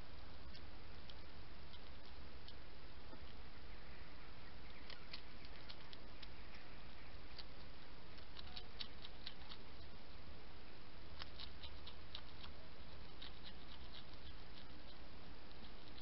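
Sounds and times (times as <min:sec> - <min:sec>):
hedgehog chewing and crunching: 0:00.0 - 0:16.0.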